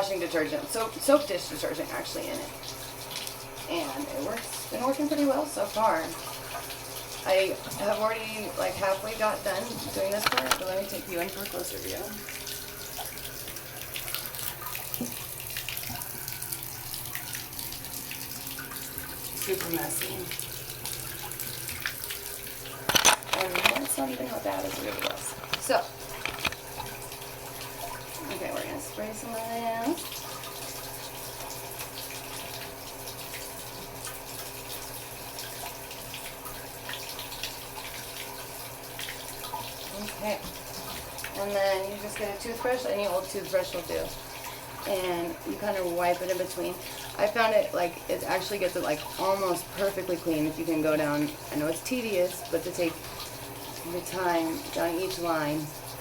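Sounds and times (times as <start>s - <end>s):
tap water running into bathtub: 0.0s - 56.0s
small water splashes: 2.2s - 56.0s.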